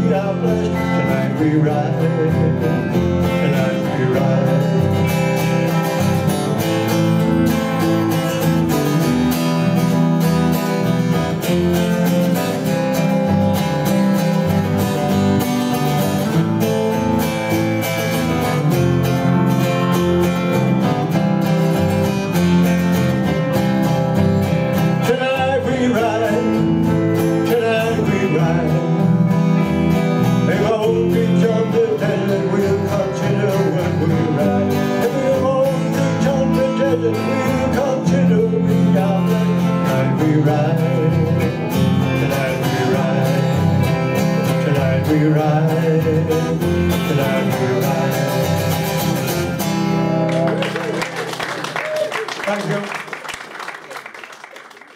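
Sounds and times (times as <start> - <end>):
live country-rock band: 0.0 - 52.6.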